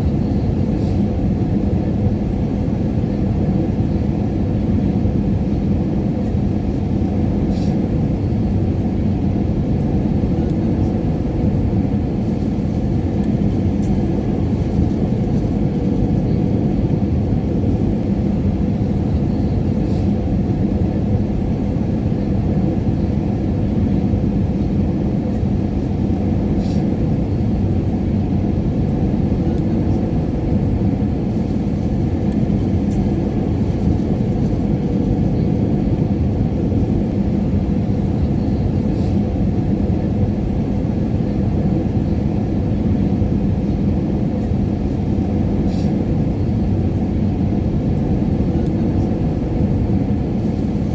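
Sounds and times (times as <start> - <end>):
airliner engine and airflow rumble: 0.0 - 50.9.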